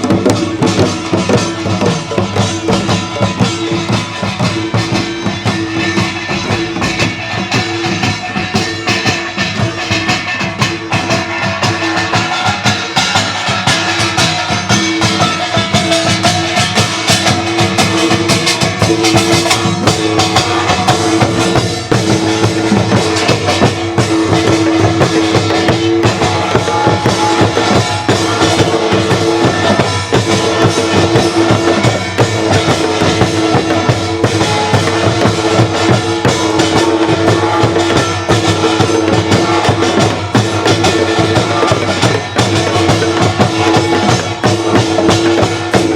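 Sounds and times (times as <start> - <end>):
drums and percussion rhythm: 0.0 - 45.9.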